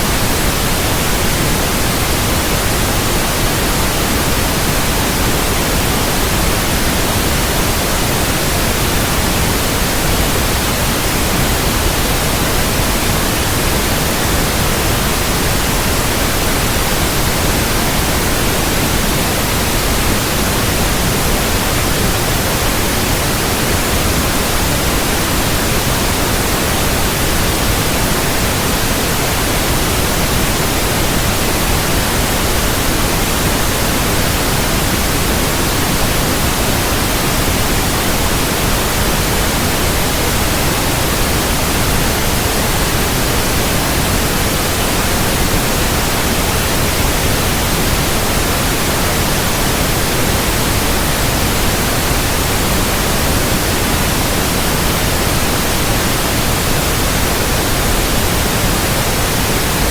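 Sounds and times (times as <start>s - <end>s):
steady white noise: 0.0s - 59.9s.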